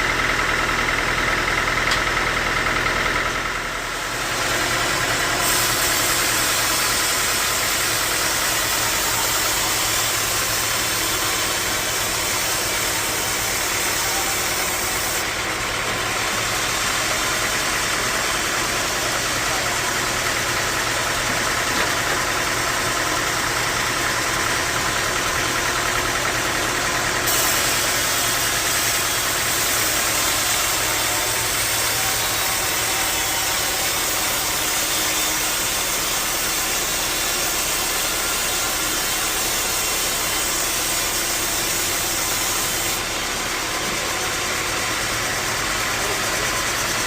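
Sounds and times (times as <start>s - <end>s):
bandsaw sawmill running: 0.0s - 47.0s.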